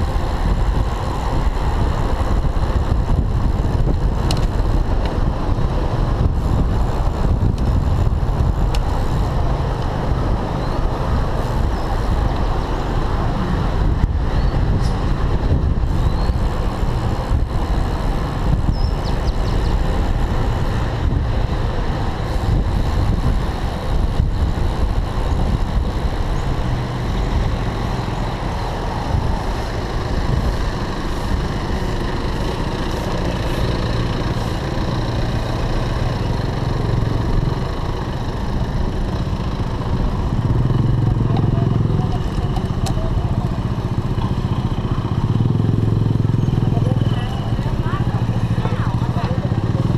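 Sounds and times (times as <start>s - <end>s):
car traffic: 0.0s - 49.9s
road rumble: 0.0s - 49.9s
wind rumble: 0.0s - 49.9s.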